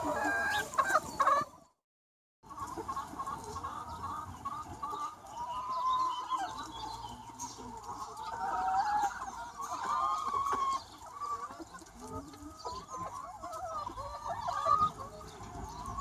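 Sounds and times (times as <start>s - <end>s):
flock of hens clucking: 0.0s - 1.8s, 2.4s - 16.0s.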